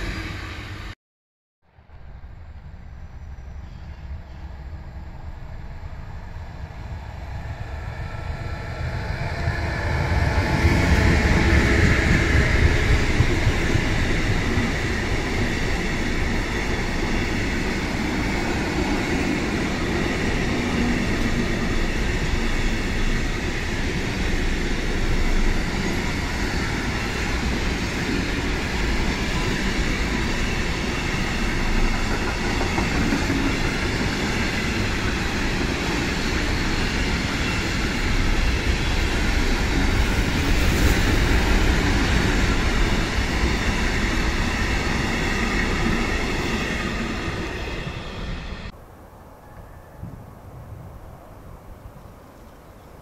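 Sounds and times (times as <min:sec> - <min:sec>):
freight train passing: 0:00.0 - 0:01.0, 0:01.7 - 0:53.0.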